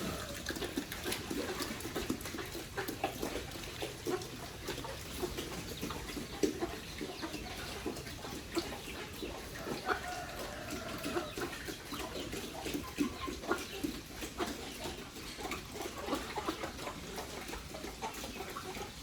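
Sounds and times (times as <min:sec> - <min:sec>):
pigs grunting: 0:00.0 - 0:19.0.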